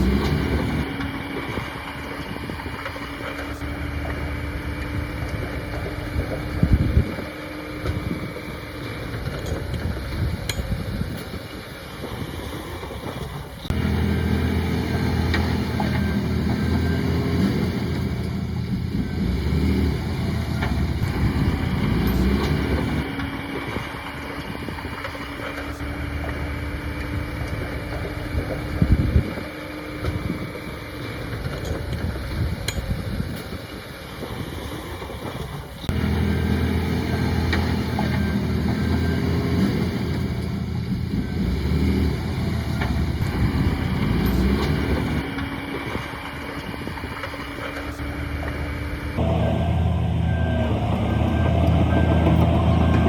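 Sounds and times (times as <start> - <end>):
diesel machinery engine: 0.0 - 53.0.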